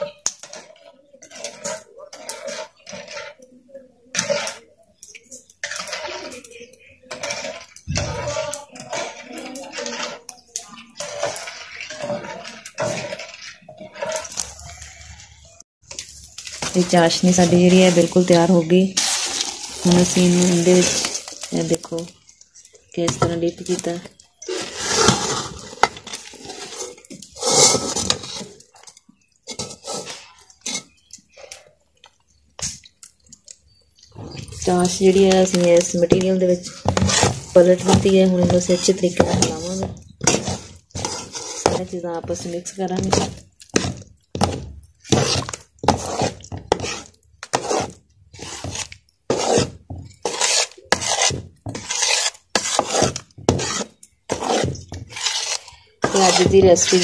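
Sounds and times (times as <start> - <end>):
ladle stirring and scraping pot: 0.0 - 57.0.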